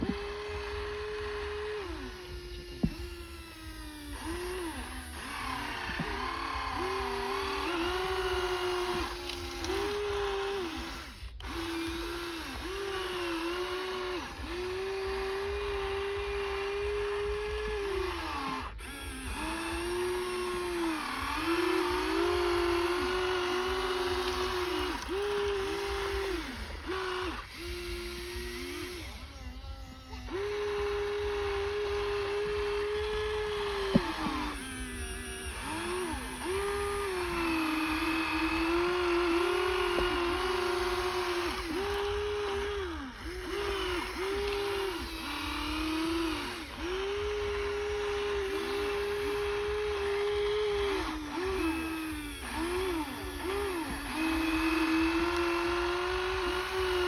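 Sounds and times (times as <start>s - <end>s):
small electric motors whining: 0.0s - 57.0s.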